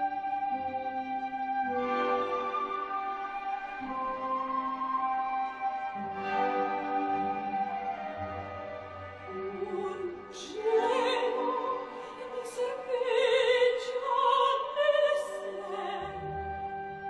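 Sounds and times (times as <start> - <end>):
high singing voice with vibrato: 2.2 - 17.0.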